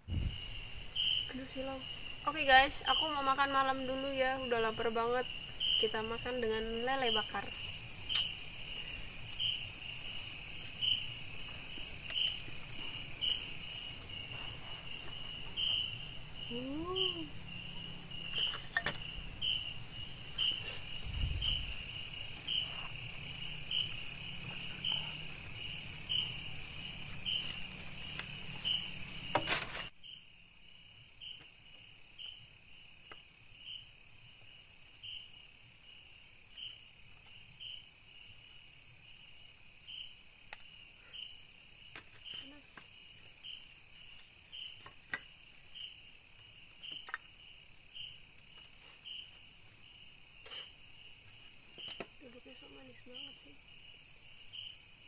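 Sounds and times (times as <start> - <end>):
crickets and insects buzzing: 0.0 - 55.0
regular insect chirp: 0.0 - 55.0.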